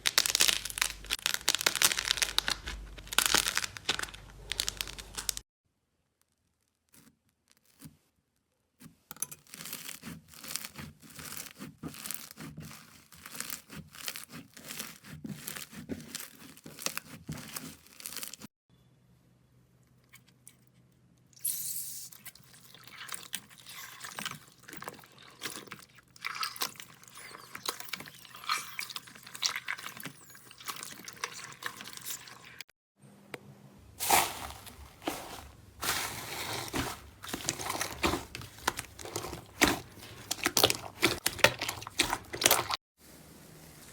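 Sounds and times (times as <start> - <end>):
slime crackling and squelching: 0.0 - 5.4, 6.2 - 7.9, 9.4 - 18.5, 21.4 - 32.6, 34.0 - 42.8.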